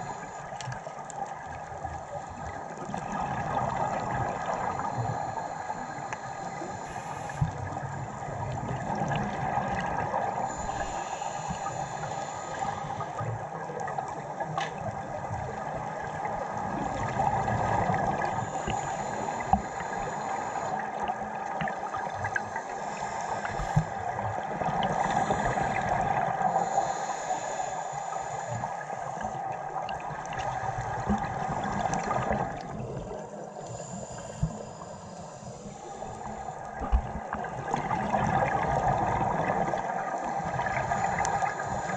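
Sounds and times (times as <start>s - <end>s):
underwater hiss and hum: 0.0s - 41.9s.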